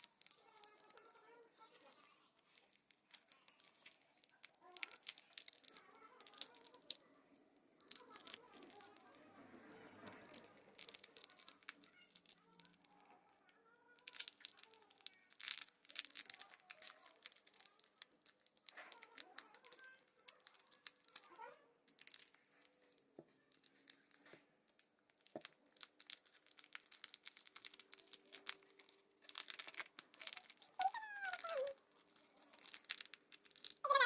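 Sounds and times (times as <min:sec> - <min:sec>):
plastic packaging crinkling and tearing: 0:00.0 - 0:34.0.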